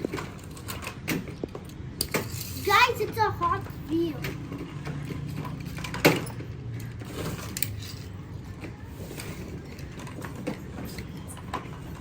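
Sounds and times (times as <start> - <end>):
light clicks and clinks of toy cars: 0.0 - 12.0.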